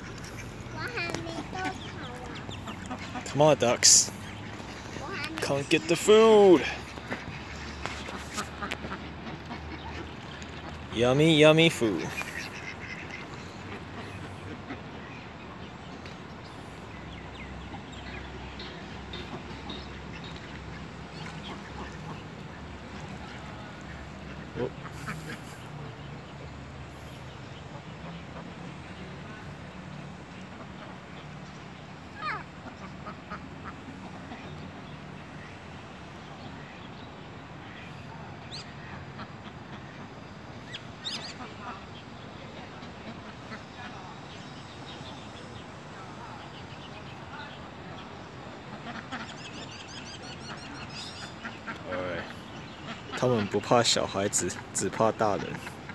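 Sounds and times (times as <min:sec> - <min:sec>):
ducks quacking softly: 0:00.0 - 0:55.9
faint outdoor background hiss: 0:00.0 - 0:55.9.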